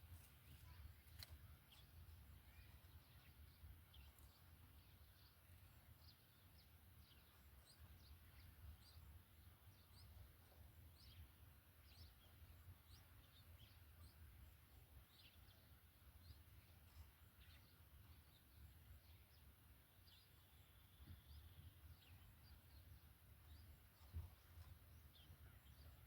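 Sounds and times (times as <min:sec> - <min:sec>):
faint bird chirps: 0:00.0 - 0:26.0
low steady hum: 0:00.0 - 0:26.0.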